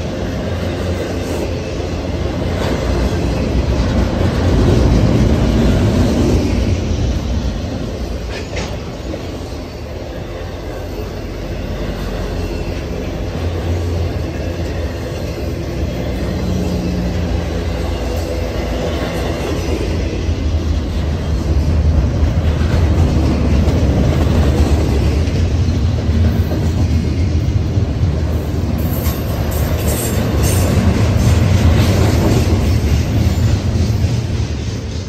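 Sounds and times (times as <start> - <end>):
freight train wheels rumbling on rail: 0.0 - 35.0.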